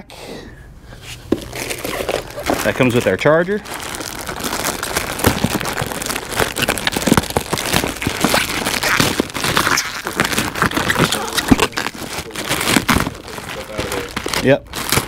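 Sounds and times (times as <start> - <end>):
plastic packaging crinkling: 1.2 - 15.0.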